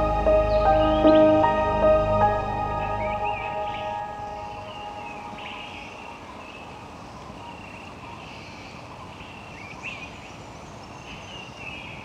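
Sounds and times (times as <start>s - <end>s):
birds calling: 0.0s - 12.0s
steady background hiss: 0.0s - 12.0s.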